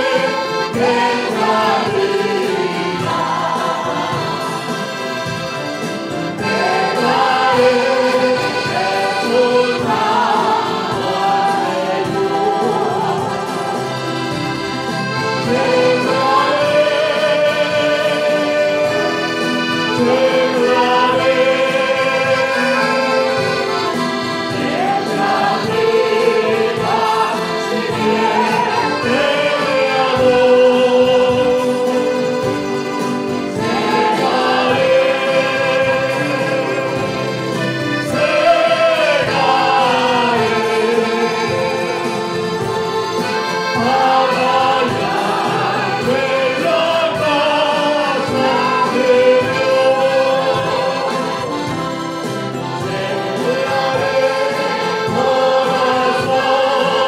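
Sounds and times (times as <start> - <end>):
accordion: 0.0 - 57.0
choir singing a hymn: 0.0 - 57.0
mandolins: 0.0 - 57.0.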